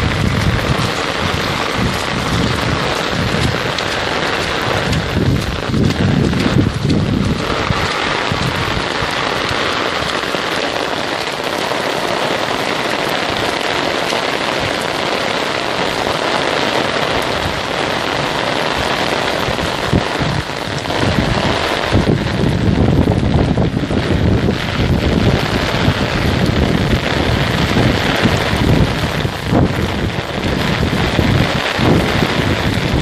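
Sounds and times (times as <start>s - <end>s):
torrential rain: 0.0s - 33.0s
wind rumble on microphone: 0.0s - 33.0s.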